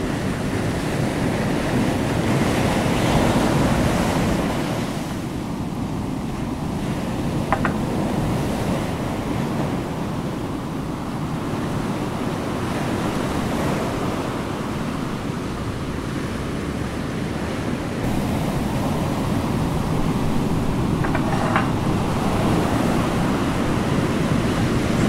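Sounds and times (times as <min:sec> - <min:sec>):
ocean surf: 0:00.0 - 0:25.0
wind: 0:00.0 - 0:25.0.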